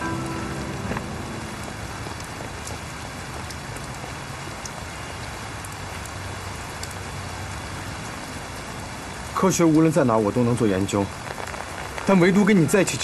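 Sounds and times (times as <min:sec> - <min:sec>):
rain falling on pavement: 0:00.0 - 0:13.0
water drips: 0:00.0 - 0:13.0.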